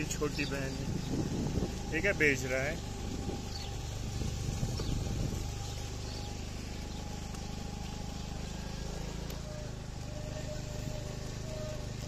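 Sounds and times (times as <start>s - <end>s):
motor scooter engine running: 0.0s - 12.0s
road and wind noise: 0.0s - 12.0s.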